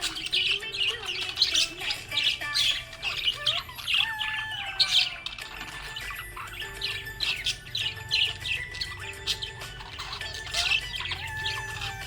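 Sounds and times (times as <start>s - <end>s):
budgerigar chirping and warbling: 0.0s - 12.0s.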